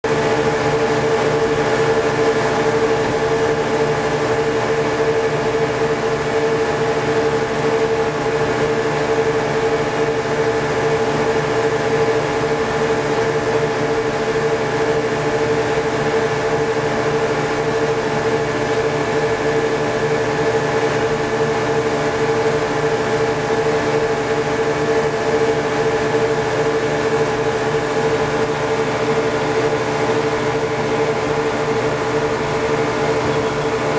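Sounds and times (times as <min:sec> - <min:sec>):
boat engine running steadily: 0:00.0 - 0:33.9.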